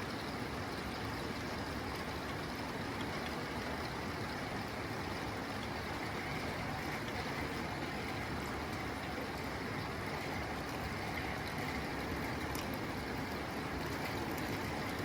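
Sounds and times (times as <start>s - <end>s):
rain on a tin roof: 0.0s - 15.0s.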